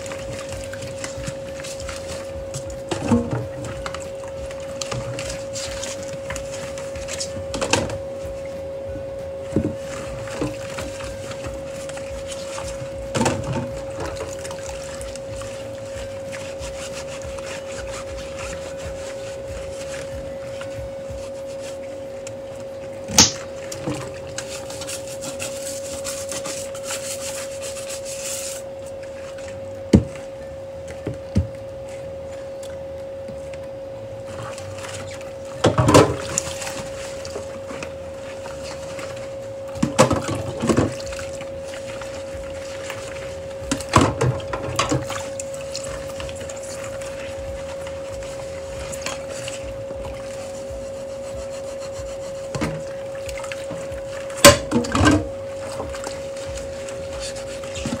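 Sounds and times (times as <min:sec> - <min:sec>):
gloved hands scrubbing dishes: 0:00.0 - 0:08.5, 0:09.6 - 0:31.8, 0:34.2 - 0:58.0
steady high hum: 0:00.0 - 0:58.0.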